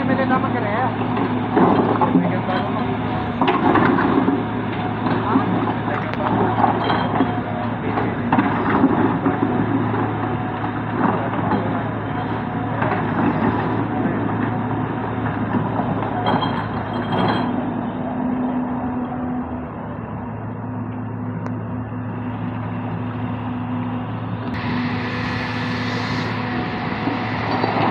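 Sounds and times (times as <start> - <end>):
heavy machinery diesel engine: 0.0 - 27.9.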